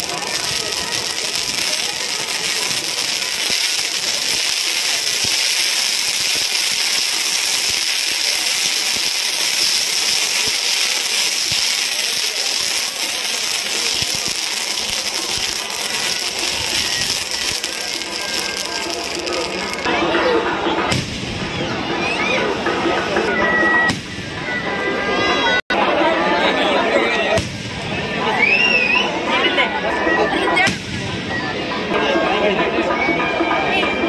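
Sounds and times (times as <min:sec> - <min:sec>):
firework fountains hissing and crackling: 0:00.0 - 0:20.1, 0:20.7 - 0:34.0.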